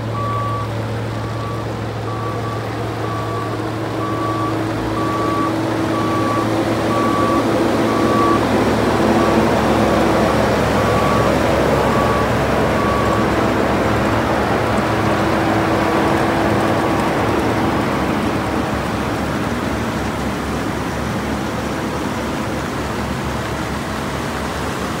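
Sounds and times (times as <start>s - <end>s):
road roller diesel engines: 0.0s - 25.0s.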